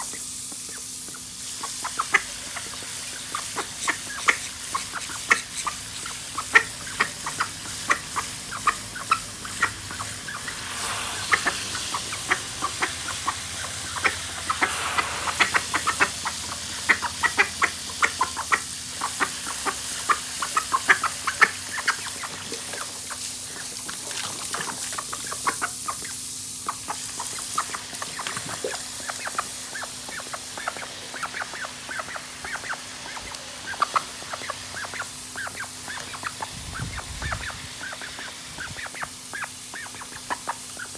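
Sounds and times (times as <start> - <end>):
hose spray hissing: 0.0 - 40.9
ducks quacking: 1.6 - 40.9.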